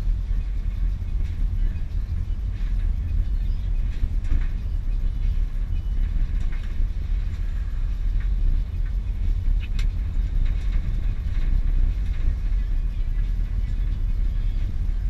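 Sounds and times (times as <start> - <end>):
faint clicks and rattles: 0.0 - 15.0
road and engine rumble: 0.0 - 15.0.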